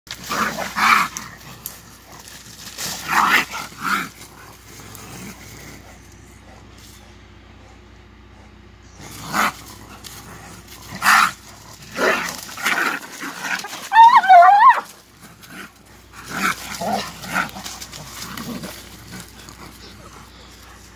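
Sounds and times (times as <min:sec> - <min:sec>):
animals scuffling and growling: 0:00.1 - 0:20.9.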